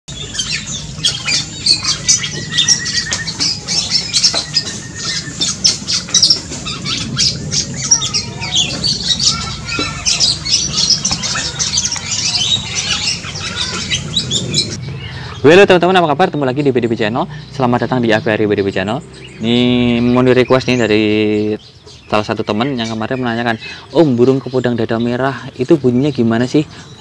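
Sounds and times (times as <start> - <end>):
birds squawking and chirping: 0.1 - 27.0.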